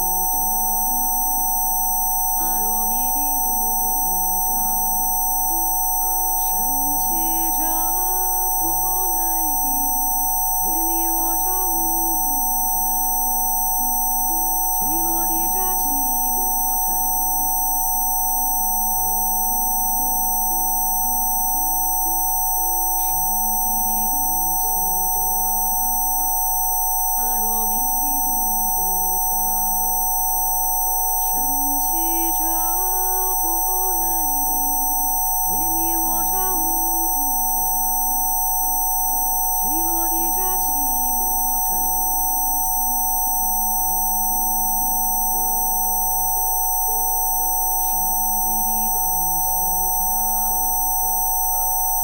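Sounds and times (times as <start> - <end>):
steady sine tones: 0.0 - 52.0.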